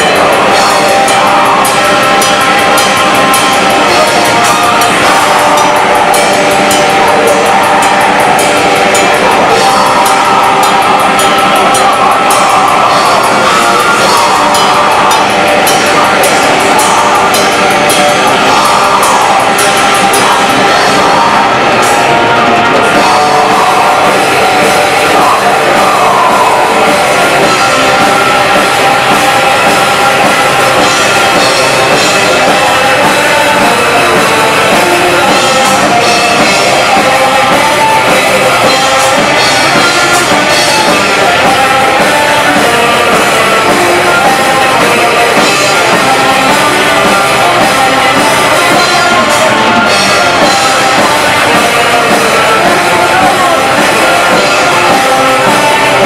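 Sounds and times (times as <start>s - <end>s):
distorted guitars: 0.0s - 56.0s
drum kit: 0.0s - 56.0s
person singing: 0.0s - 56.0s.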